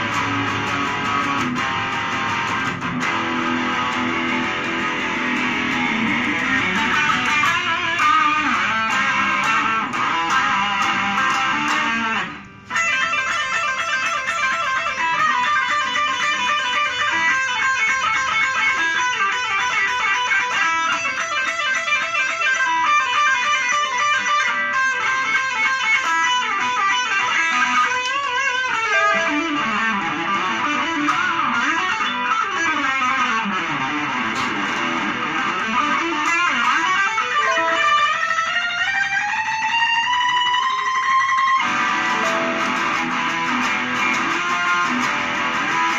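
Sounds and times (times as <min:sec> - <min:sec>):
electric guitar lead line: 0:00.0 - 0:45.9.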